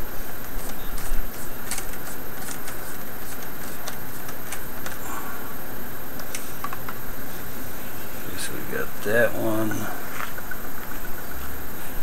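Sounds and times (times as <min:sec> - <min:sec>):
steady loud hiss: 0:00.0 - 0:12.0.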